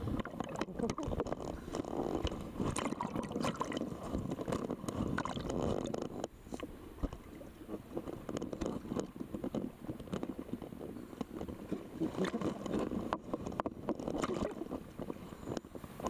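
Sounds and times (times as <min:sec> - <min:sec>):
sea water splashing and sloshing: 0:00.0 - 0:16.0.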